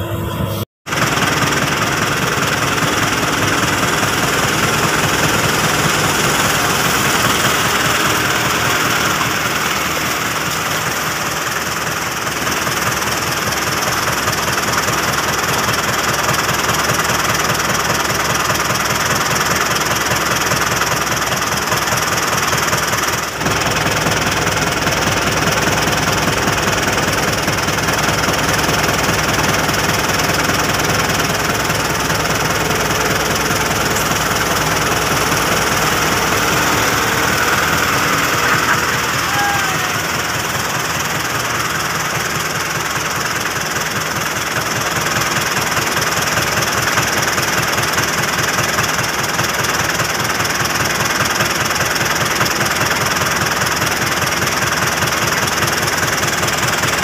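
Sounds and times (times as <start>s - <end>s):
diesel tractor engine knocking: 0.8s - 57.0s.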